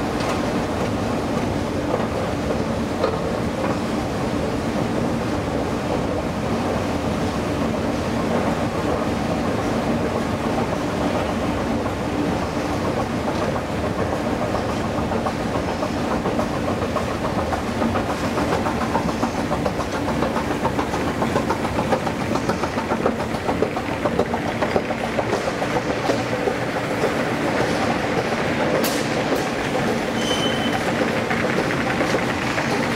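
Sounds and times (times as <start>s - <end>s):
escalator steps clattering: 0.0s - 5.3s, 7.6s - 32.9s.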